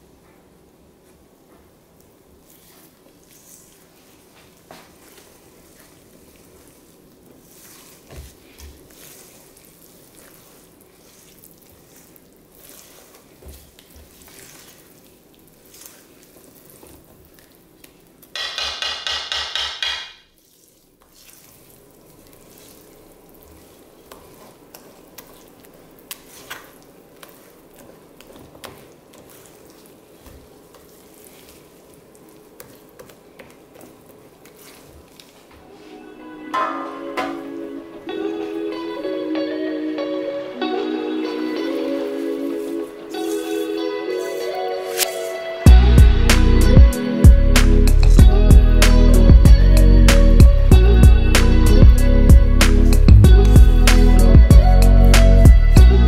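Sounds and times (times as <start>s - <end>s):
whisk stirring batter in metal bowl: 2.4s - 35.5s, 41.8s - 55.8s.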